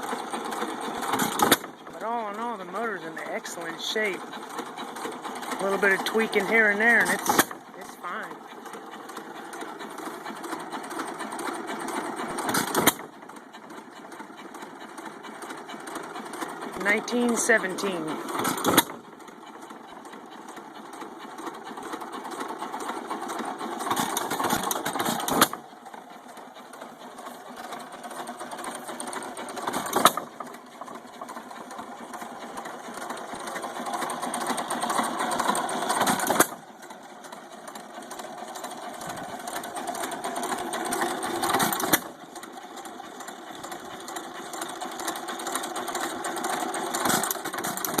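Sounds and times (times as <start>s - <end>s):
stationary engine running: 0.0s - 48.0s.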